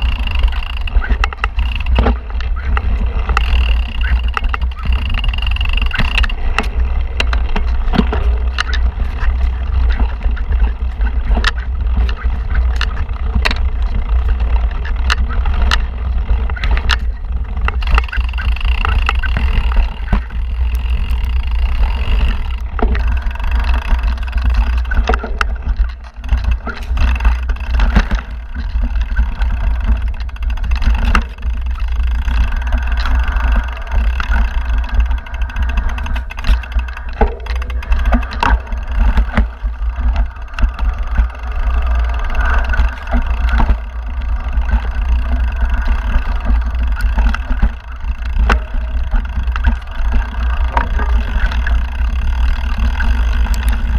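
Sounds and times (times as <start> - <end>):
bike knocking and rattling: 0.0 - 53.9
bike tyres crunching over gravel: 0.0 - 53.9
wind rumble on microphone: 0.0 - 53.9.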